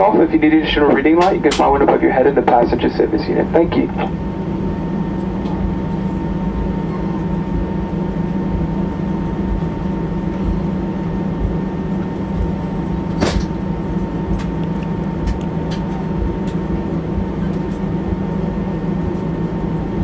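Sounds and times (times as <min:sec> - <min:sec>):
airliner cabin hum and whine: 0:00.0 - 0:20.0.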